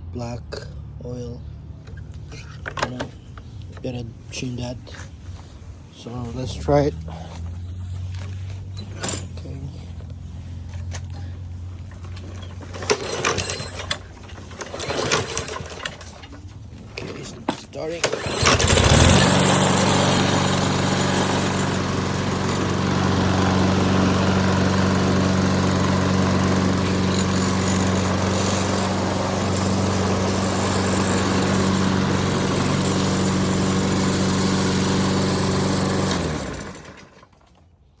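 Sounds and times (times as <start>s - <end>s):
lawn mower engine running: 1.8s - 37.6s.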